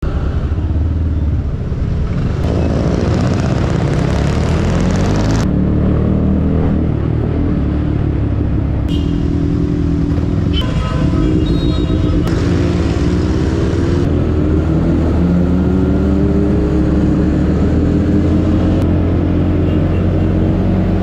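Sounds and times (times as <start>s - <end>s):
motorcycle engine accelerating: 0.2s - 21.0s.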